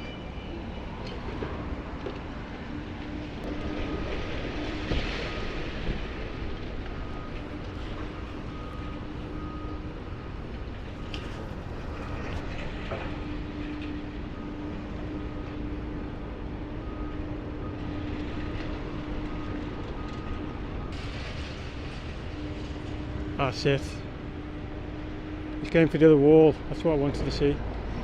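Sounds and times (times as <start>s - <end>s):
engine whine: 0.0s - 28.0s
excavator engine drone: 0.0s - 28.0s.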